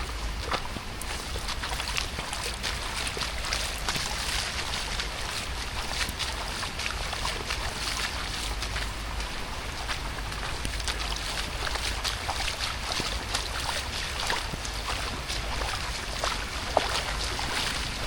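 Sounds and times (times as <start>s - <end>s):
low wind rumble: 0.0s - 18.0s
steady rain falling: 0.0s - 18.0s.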